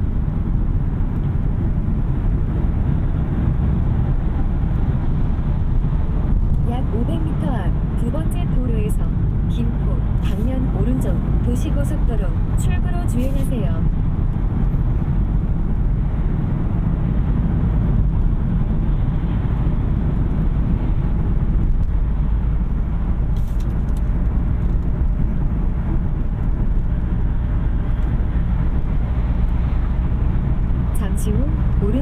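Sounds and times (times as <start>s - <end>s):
road and tyre noise in car: 0.0s - 32.0s.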